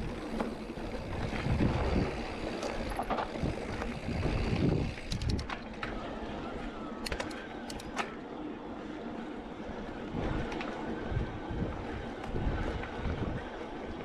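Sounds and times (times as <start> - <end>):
wind buffeting microphone: 0.0 - 7.2, 9.6 - 14.0
bike clicks and rattles: 0.0 - 14.0
mountain bike rolling on dirt: 0.0 - 14.0.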